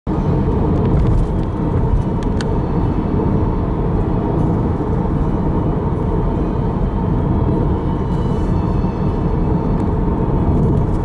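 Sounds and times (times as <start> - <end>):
car road and engine rumble: 0.1 - 11.0.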